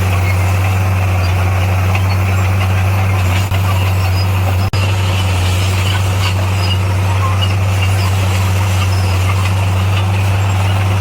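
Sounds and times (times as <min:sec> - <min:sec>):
bulldozer diesel engine droning: 0:00.0 - 0:11.0.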